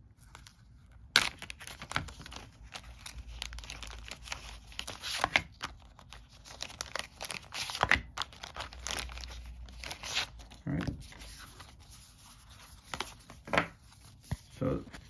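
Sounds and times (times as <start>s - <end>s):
plastic wrapping crinkling and tearing: 0.2s - 15.0s.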